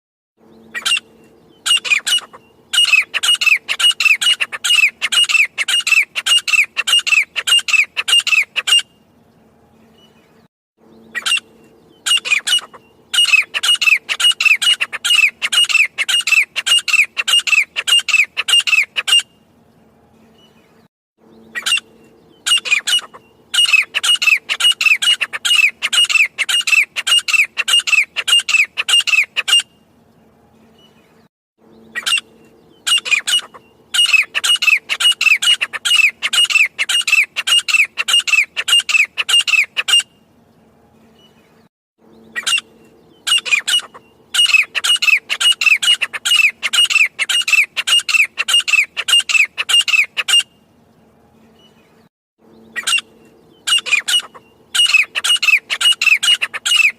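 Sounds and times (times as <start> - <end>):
francolin calling: 0.5 - 8.9, 10.9 - 19.3, 21.3 - 29.7, 31.7 - 40.2, 42.1 - 50.6, 52.5 - 56.9.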